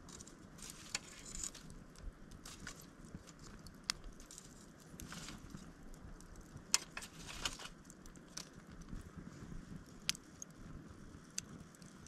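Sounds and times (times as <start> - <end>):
campfire wood crackling: 0.0 - 12.0
low background noise: 0.0 - 12.0
sharp pops of fire: 0.0 - 12.0.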